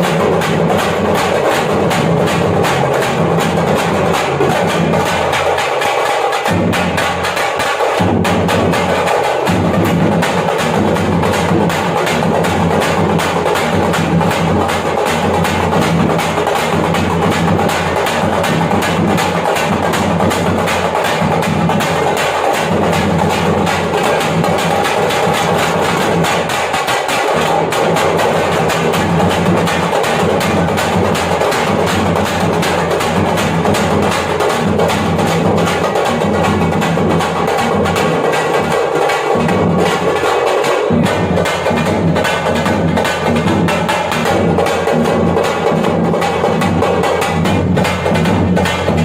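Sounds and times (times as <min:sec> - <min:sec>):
frame drums beaten fast: 0:00.0 - 0:49.0.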